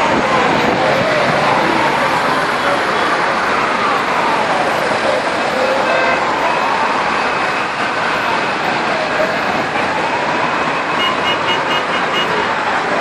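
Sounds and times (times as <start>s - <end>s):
emergency siren wailing: 0.0s - 13.0s
traffic noise: 0.0s - 13.0s.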